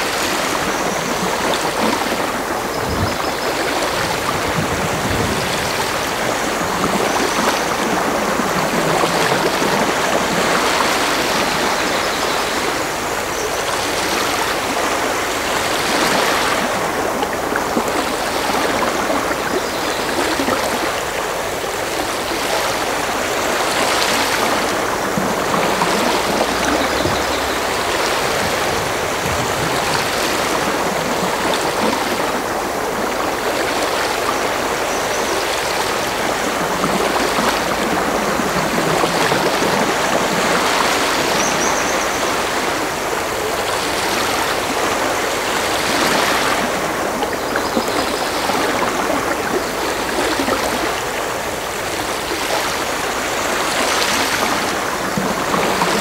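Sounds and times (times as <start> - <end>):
running bubbling water: 0.0 - 56.0.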